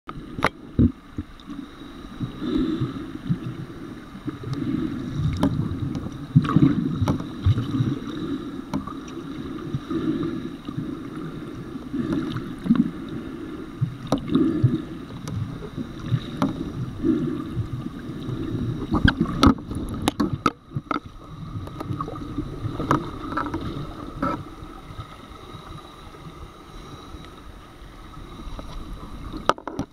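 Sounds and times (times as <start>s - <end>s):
underwater rumbling and swishing: 0.1s - 29.9s.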